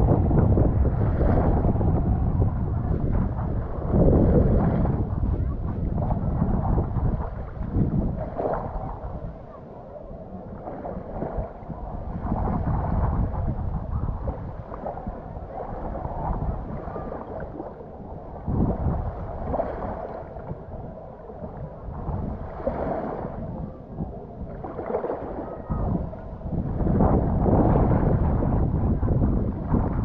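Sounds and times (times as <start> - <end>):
sea washing: 0.0 - 30.0
wind buffeting microphone: 0.0 - 30.0.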